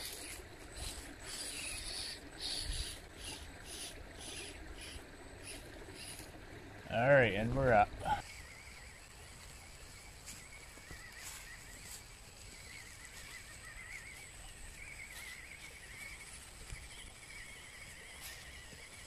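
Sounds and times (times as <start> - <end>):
small electric motor whine: 0.0 - 19.0.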